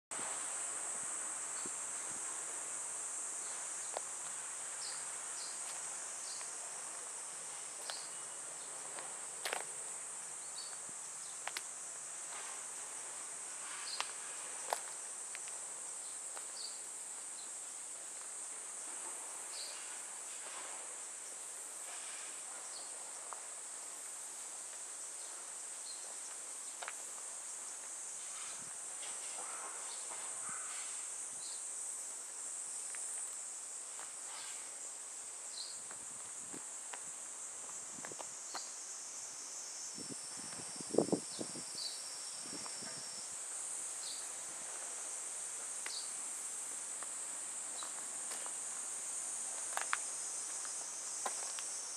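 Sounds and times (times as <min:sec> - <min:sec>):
insects droning: 0:00.1 - 0:51.9.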